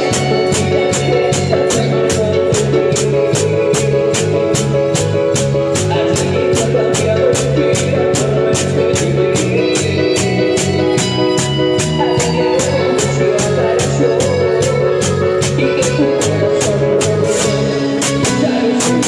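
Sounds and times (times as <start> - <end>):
electronic keyboard chords: 0.0 - 19.0
low drum beat: 0.0 - 19.0.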